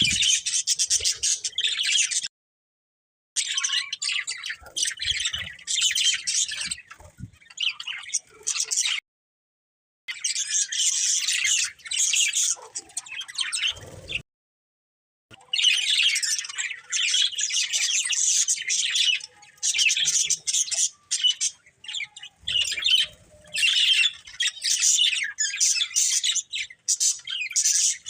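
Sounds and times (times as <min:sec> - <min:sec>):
budgerigars chattering and chirping: 0:00.0 - 0:02.3, 0:03.4 - 0:09.0, 0:10.1 - 0:14.2, 0:15.4 - 0:28.0.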